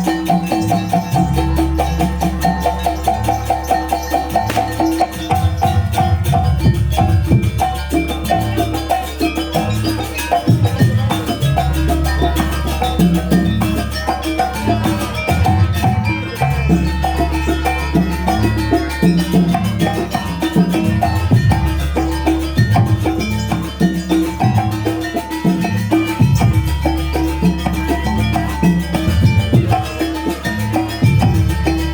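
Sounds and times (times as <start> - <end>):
drums: 0.0 - 31.9
gamelan music: 0.0 - 31.9
low bass: 0.0 - 31.9.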